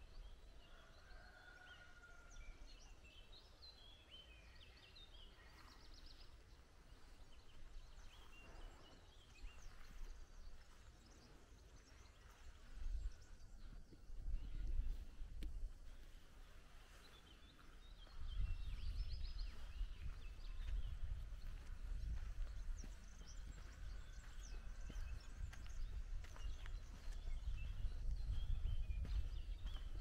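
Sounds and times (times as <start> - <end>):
small birds singing: 0.0 - 30.0.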